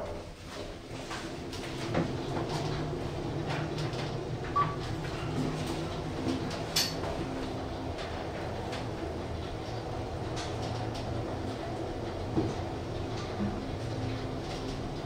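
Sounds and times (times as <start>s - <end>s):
lift ride hum: 0.5s - 15.0s.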